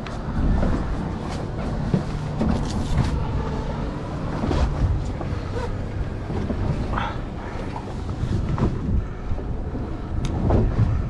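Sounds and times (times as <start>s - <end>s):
boat engine rumble: 0.0s - 11.0s
water noise: 0.0s - 11.0s
wind on microphone: 0.0s - 11.0s.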